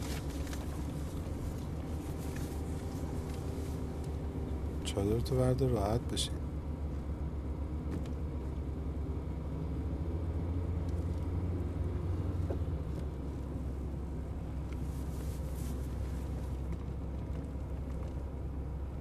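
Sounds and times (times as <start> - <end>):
car engine and tyres droning: 0.0 - 19.0.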